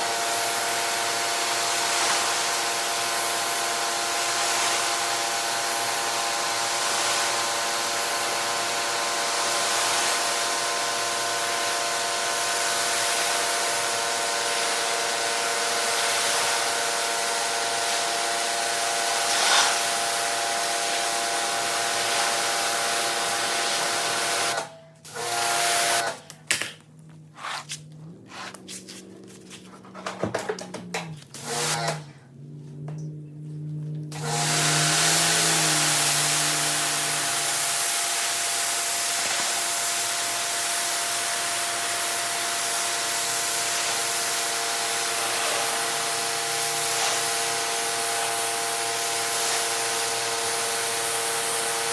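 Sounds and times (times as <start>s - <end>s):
pressure washer water jet hissing: 0.0s - 24.6s, 34.1s - 51.9s.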